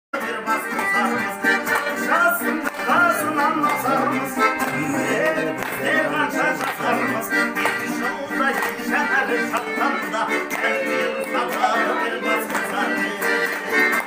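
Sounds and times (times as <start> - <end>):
man singing: 0.1 - 14.0
lute strummed: 0.2 - 14.0.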